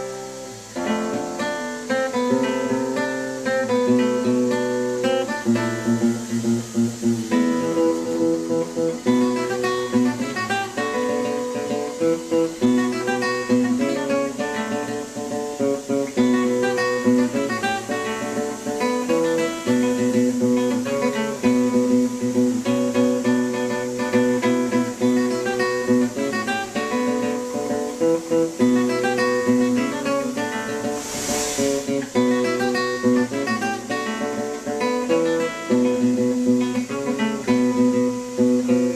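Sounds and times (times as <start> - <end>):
acoustic guitar music: 0.0 - 38.9
burst of hiss: 0.0 - 38.9.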